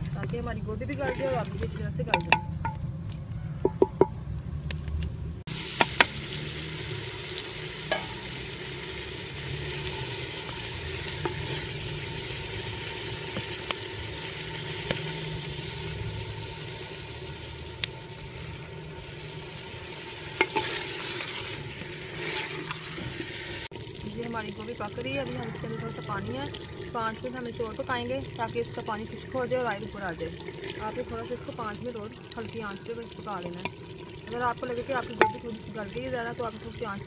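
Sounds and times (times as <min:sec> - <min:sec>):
vegetables sizzling in a pot: 0:05.5 - 0:37.0.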